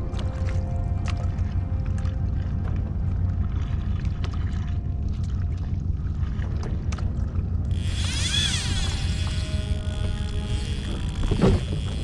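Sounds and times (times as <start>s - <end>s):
small waves slapping a hull: 0.0s - 7.8s, 8.7s - 12.0s
wind rumble on microphone: 0.0s - 12.0s.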